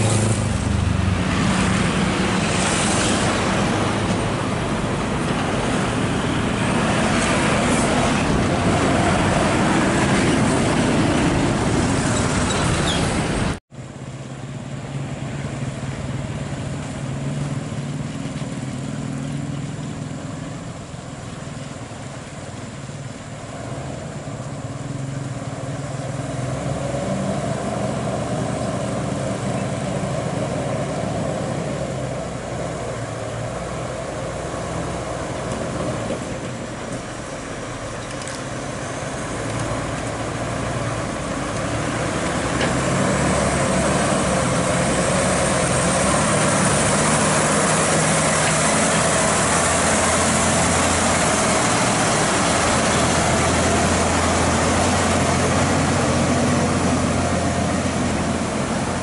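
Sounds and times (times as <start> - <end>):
diesel truck engine: 0.0 - 59.0.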